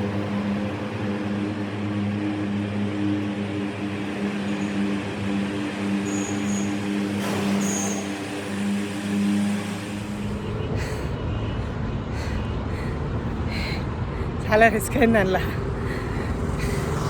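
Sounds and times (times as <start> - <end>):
vehicle engine hum in tunnel: 0.0 - 17.0.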